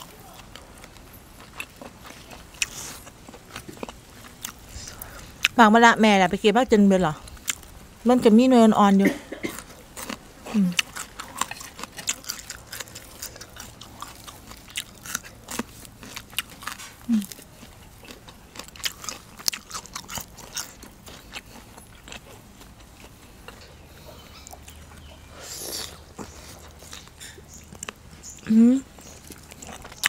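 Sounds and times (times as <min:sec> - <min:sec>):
wet chewing and mouth clicks: 0:00.0 - 0:05.6, 0:07.2 - 0:07.8, 0:09.5 - 0:30.0.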